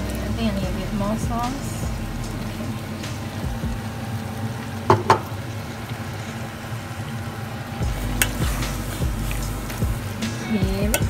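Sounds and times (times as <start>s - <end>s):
food simmering and sizzling: 0.0s - 11.0s.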